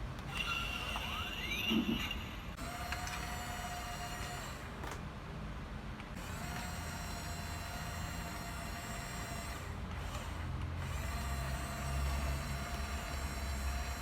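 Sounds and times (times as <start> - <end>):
toy electric motors whirring: 0.3 - 5.0, 6.2 - 14.0.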